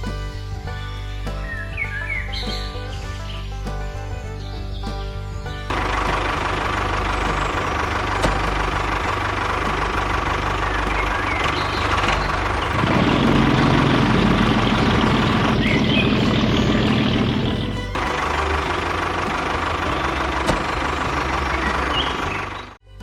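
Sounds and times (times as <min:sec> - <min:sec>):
engine idling with knocking: 0:00.0 - 0:23.0.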